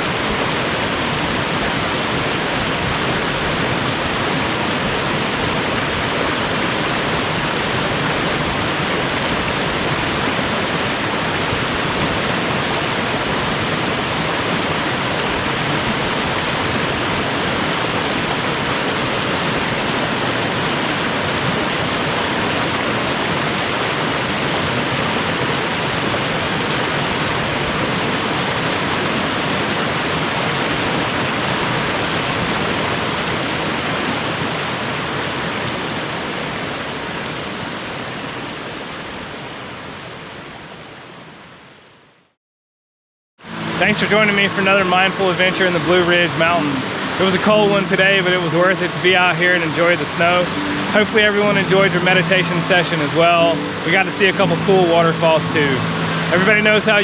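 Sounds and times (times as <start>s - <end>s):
creek water rushing: 0.0s - 38.6s, 43.4s - 57.0s.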